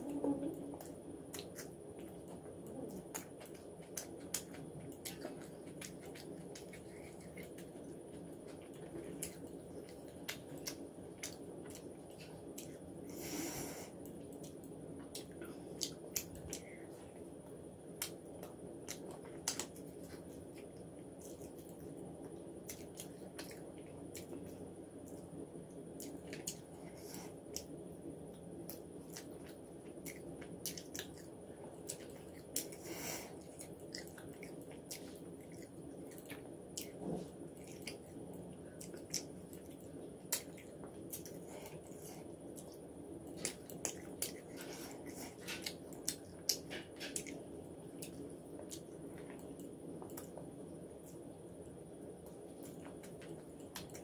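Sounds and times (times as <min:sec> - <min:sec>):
person chewing with wet mouth sounds: 0:00.0 - 0:54.0
steady low hum: 0:00.0 - 0:54.0.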